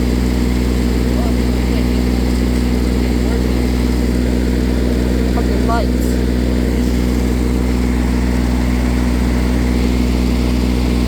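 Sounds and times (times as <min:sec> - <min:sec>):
riding lawn mower engine droning: 0:00.0 - 0:11.0.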